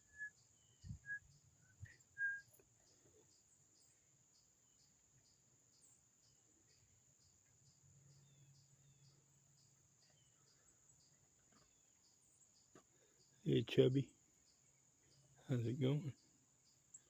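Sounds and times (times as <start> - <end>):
cricket chirping: 0.0 - 17.0
faint bird chirps: 0.0 - 17.0
high insect drone: 0.0 - 17.0.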